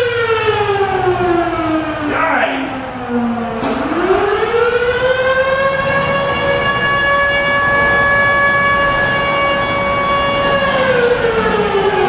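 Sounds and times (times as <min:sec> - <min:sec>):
outdoor warning siren: 0:00.0 - 0:12.0.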